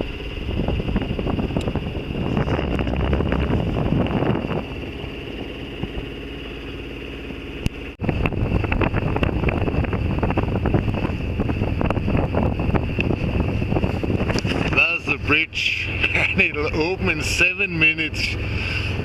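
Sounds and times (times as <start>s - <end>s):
wind buffeting microphone: 0.0s - 17.4s
boat diesel engine droning: 0.0s - 19.0s.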